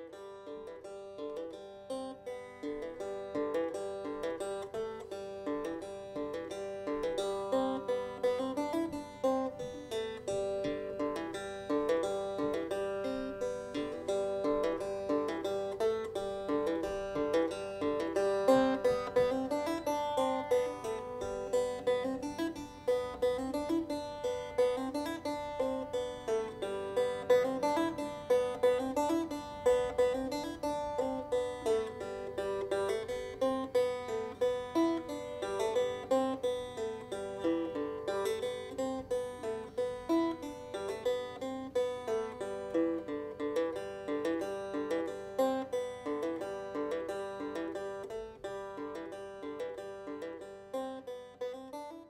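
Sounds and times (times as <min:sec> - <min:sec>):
banjo picking: 0:00.0 - 0:52.0.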